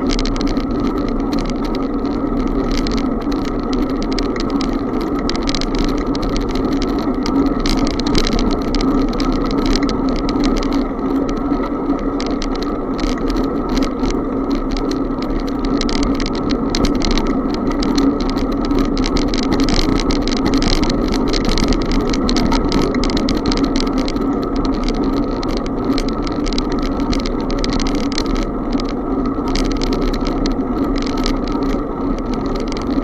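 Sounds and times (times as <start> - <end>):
bicycle rattling clicks: 0.0 - 33.0
bicycle rolling hum: 0.0 - 33.0.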